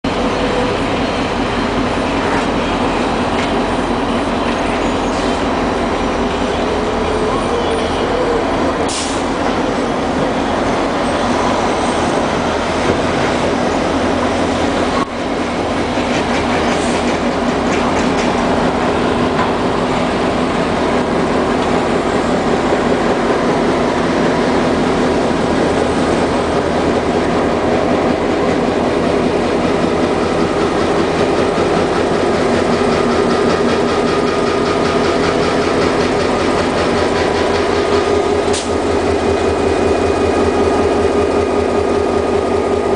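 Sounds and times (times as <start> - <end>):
locomotive diesel engine running: 0.0 - 42.9.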